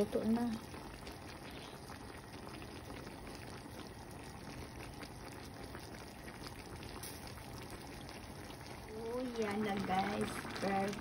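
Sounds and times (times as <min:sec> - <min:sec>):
pot simmering with bubbling: 0:00.0 - 0:11.0.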